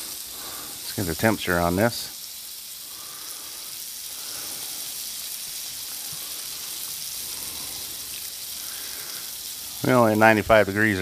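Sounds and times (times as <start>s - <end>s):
steak sizzling on a griddle: 0.0s - 11.0s.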